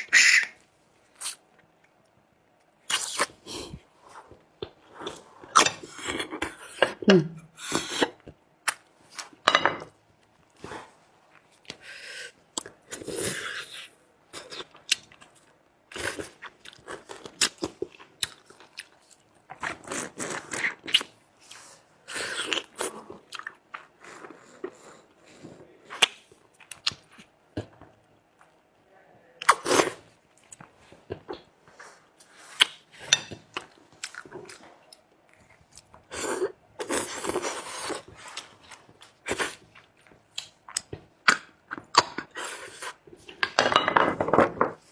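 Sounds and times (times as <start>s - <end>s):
close-miked eating and crunching: 0.0s - 44.9s.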